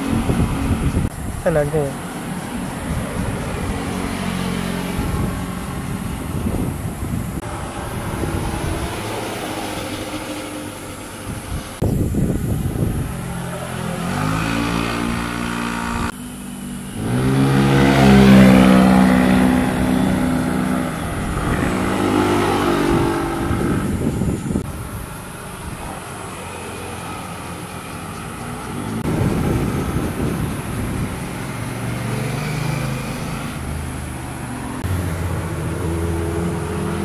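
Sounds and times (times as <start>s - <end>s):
vehicle engines passing and revving: 0.0s - 37.0s.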